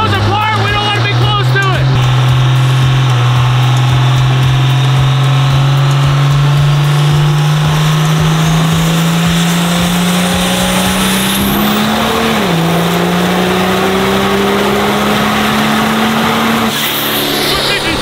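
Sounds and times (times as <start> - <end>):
diesel engine at full throttle: 0.0 - 18.0.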